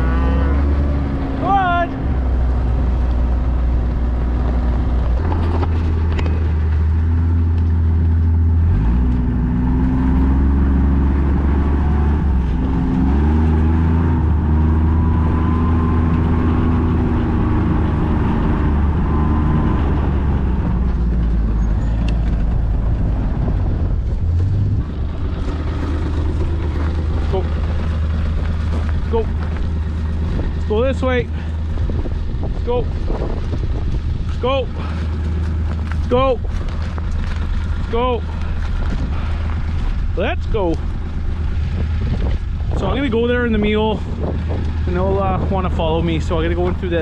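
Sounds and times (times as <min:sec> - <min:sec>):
utility vehicle engine running: 0:00.0 - 0:47.0.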